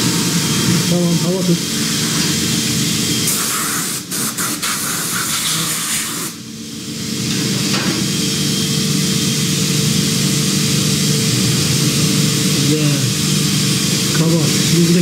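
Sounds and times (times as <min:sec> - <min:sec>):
machining centre low hum: 0:00.0 - 0:04.2, 0:06.3 - 0:15.0.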